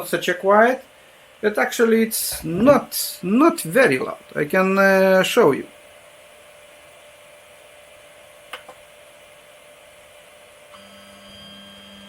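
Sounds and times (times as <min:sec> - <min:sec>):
printer fan whirring: 0:00.0 - 0:10.7
electric hum: 0:00.0 - 0:12.0.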